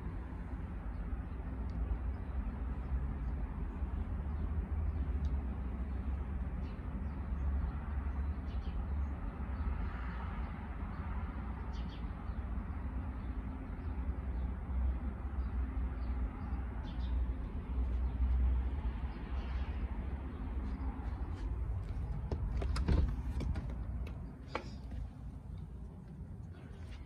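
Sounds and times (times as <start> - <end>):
low street rumble: 0.0 - 27.0.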